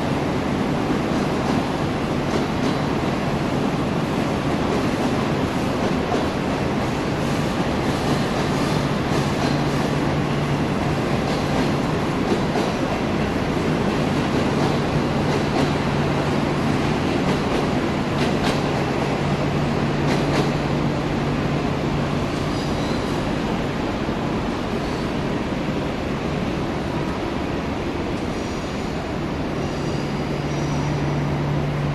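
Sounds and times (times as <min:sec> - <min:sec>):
train wheels rumbling: 0:00.0 - 0:31.9.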